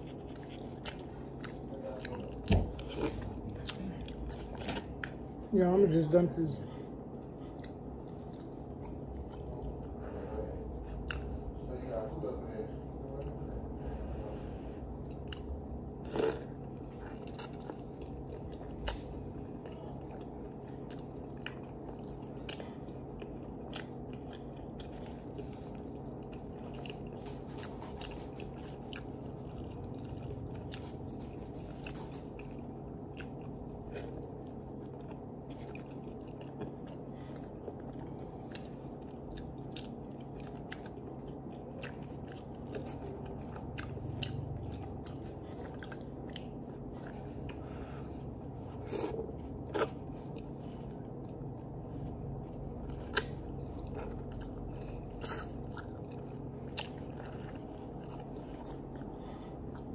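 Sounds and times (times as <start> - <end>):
chewing and biting sandwich: 0.0 - 5.6, 6.8 - 10.0, 10.7 - 11.7, 14.9 - 59.9
steady low hum: 0.0 - 59.9.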